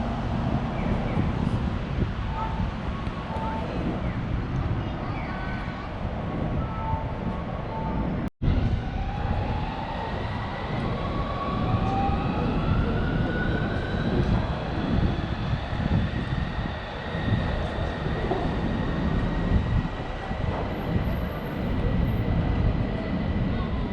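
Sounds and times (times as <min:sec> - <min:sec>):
train rumble: 0:00.0 - 0:23.9.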